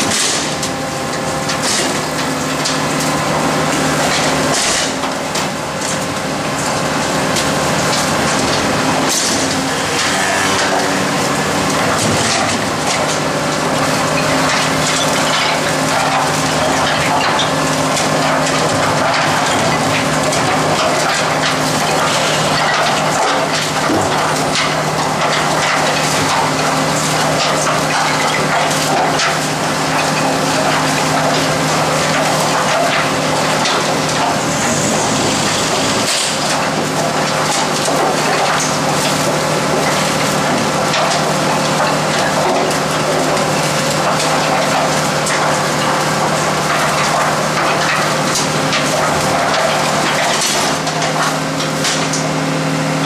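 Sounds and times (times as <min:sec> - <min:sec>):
garbage compactor crunching: 0:00.0 - 0:53.0
truck engine drone: 0:00.0 - 0:53.0.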